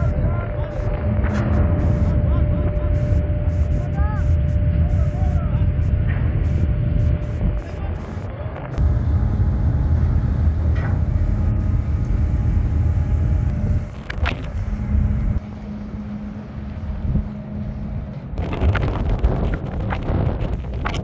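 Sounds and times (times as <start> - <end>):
engines rumbling: 0.0 - 21.0
faint hum: 0.0 - 21.0.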